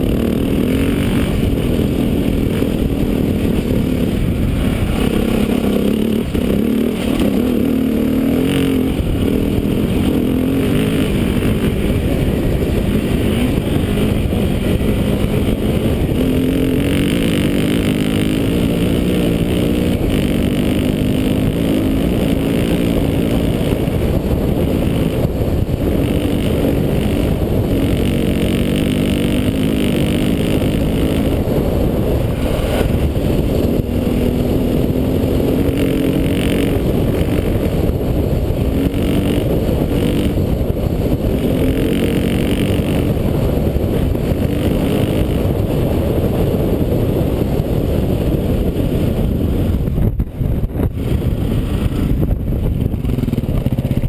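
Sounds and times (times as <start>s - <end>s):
dirt bike engine revving: 0.0s - 49.3s.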